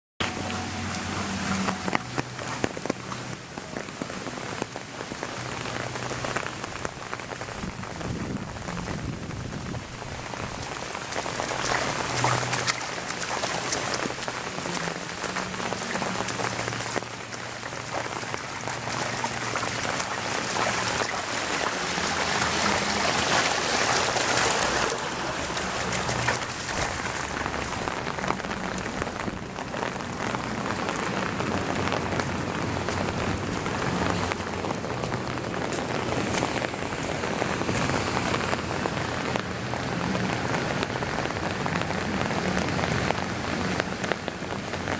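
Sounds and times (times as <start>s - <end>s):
heavy rain pouring: 0.2s - 44.9s.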